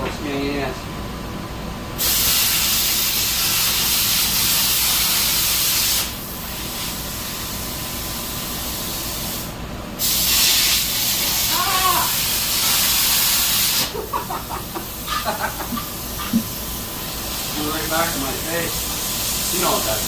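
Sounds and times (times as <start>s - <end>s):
plasma cutter torch hissing: 2.0s - 20.0s.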